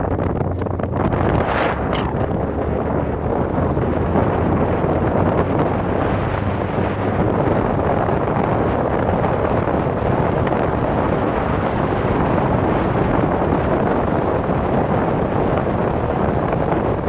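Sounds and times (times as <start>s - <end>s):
low engine drone: 0.0s - 17.0s
wind and road noise in car: 0.0s - 17.0s
wind buffeting microphone: 0.0s - 17.0s.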